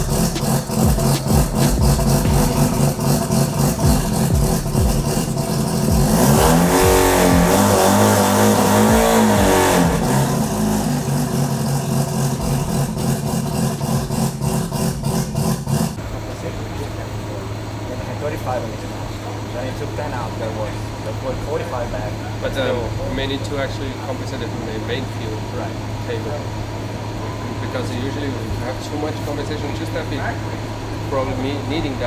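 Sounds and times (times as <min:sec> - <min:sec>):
rotary engine idling and revving: 0:00.0 - 0:32.0.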